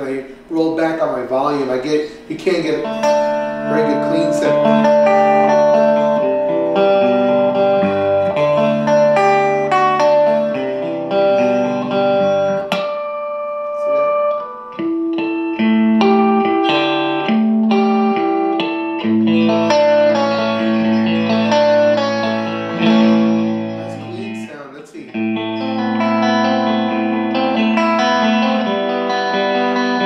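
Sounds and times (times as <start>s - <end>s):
clean electric guitar chords: 2.7s - 30.0s.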